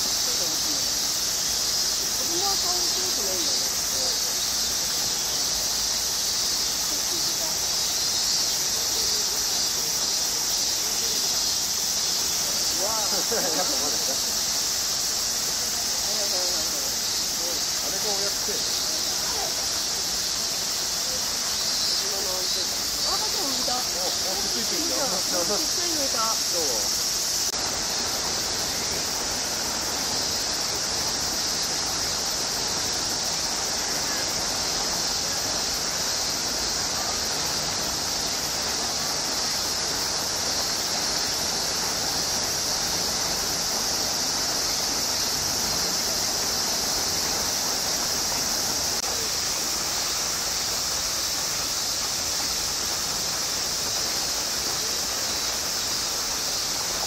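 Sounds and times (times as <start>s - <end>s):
cicada chorus: 0.0s - 57.0s.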